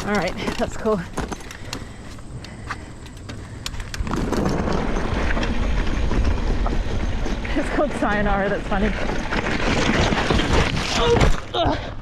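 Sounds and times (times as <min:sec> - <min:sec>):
bike clicks and rattles: 0:00.0 - 0:11.6
wind and tyre noise: 0:00.0 - 0:12.0.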